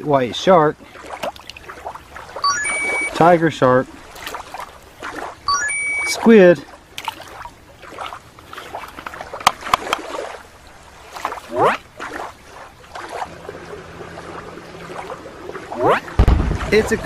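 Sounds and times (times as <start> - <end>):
shallow water sloshing and splashing: 0.0 - 17.0.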